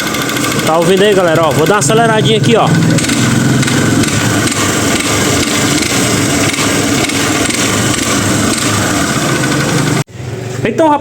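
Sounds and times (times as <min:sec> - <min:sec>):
mechanical knocking noise: 0:00.0 - 0:10.0
single-cylinder engine running: 0:00.0 - 0:10.4.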